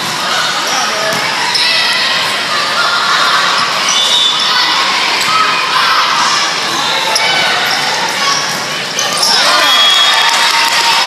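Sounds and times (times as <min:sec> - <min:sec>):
people calling out and cheering: 0:00.0 - 0:11.0.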